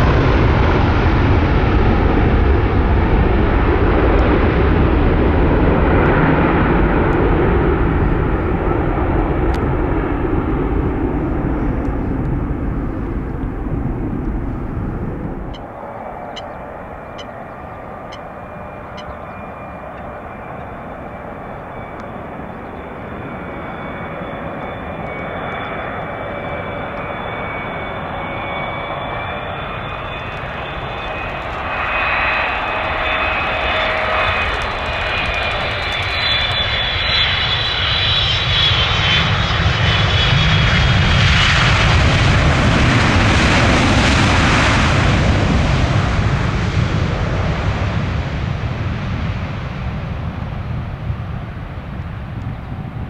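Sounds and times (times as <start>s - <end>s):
jet airliner engines whining: 0.0s - 53.0s.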